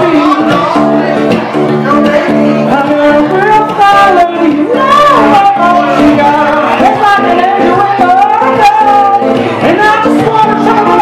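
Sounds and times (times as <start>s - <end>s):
acoustic guitar chords: 0.0s - 11.0s
woman singing: 1.8s - 11.0s.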